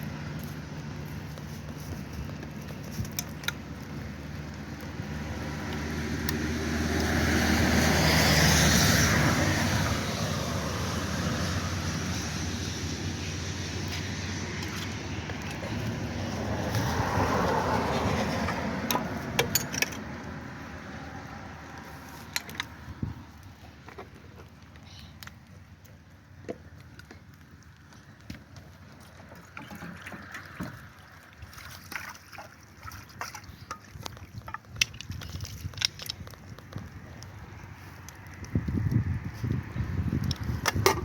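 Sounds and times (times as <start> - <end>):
car engine and tyre noise: 0.0 - 41.0.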